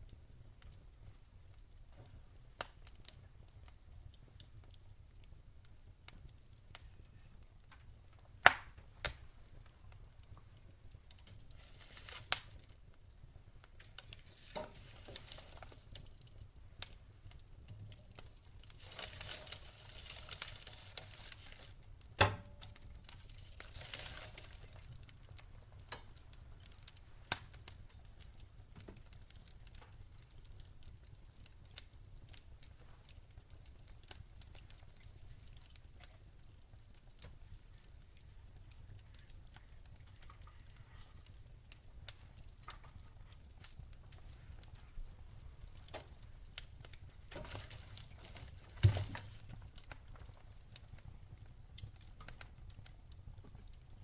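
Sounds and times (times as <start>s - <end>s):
campfire crackling and popping: 0.0s - 54.0s
soft hissing of fire: 0.0s - 54.0s.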